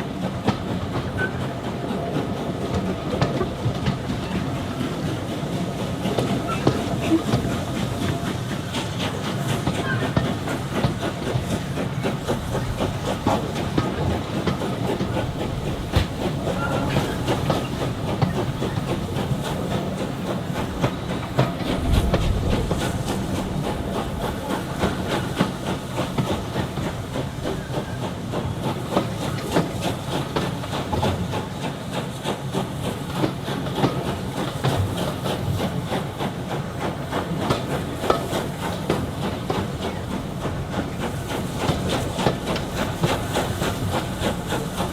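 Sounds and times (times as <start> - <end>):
train rumble: 0.0 - 44.9
wheels clicking on rails: 0.0 - 44.9.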